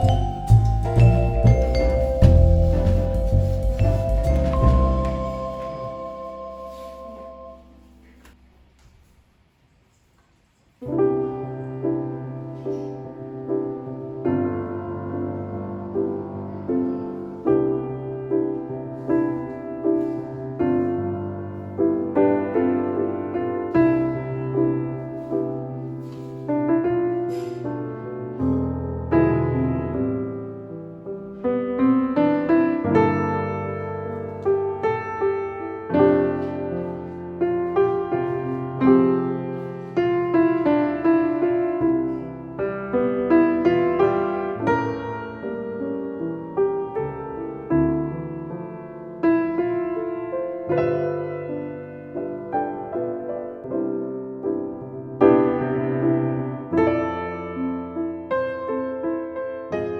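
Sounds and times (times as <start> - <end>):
soft solo piano chords: 0.0 - 8.4, 10.8 - 59.9.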